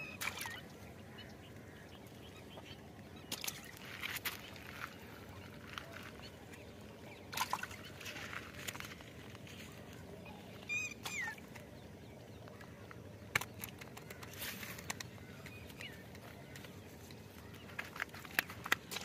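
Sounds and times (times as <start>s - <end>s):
fish splashing in shallow water: 0.0s - 19.0s.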